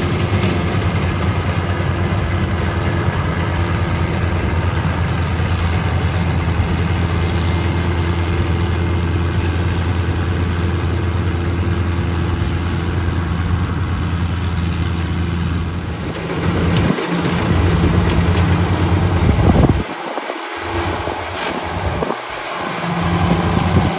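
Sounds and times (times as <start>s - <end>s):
diesel engine humming: 0.0s - 23.9s
noisy machine with rattles: 0.0s - 23.9s.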